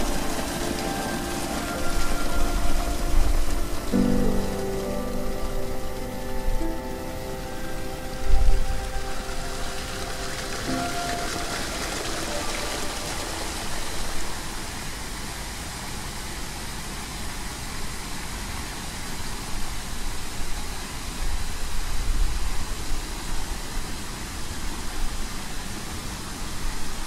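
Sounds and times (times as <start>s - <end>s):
falling water rushing: 0.0s - 27.0s.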